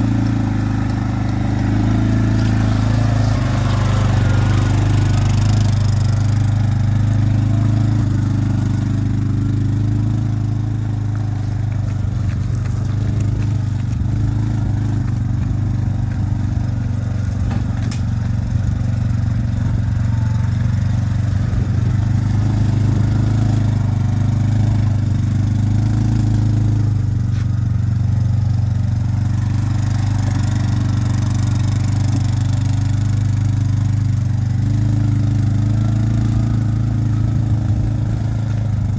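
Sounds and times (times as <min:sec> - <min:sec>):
quad bike engine droning: 0:00.0 - 0:38.9.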